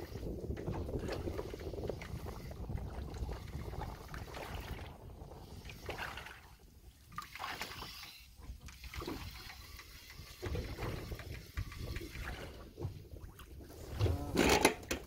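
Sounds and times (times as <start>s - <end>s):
wind rumble on microphone: 0.0s - 7.2s, 8.4s - 15.0s
water splashing and trickling: 0.0s - 15.0s.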